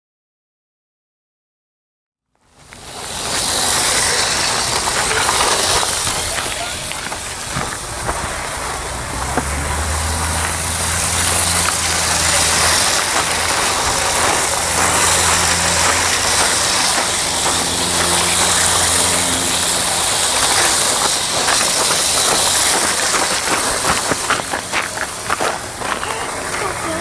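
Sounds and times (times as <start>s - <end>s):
wheels rolling hiss: 2.4s - 27.0s
electric motor hum: 2.5s - 27.0s.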